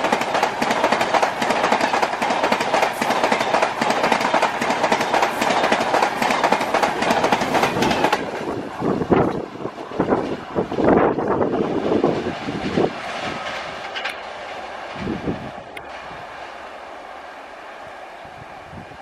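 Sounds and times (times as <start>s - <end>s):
wheels clacking over rail joints: 0.0s - 16.6s
train rushing past: 0.0s - 19.0s.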